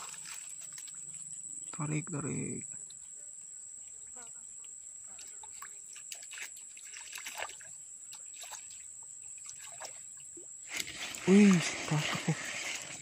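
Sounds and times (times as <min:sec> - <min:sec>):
small water splashes and drips: 0:00.0 - 0:01.4, 0:02.8 - 0:12.9.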